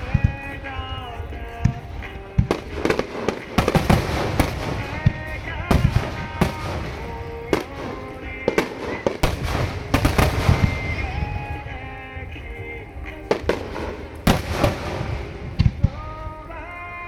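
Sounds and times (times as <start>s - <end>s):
firework shells bursting: 0.0s - 16.6s.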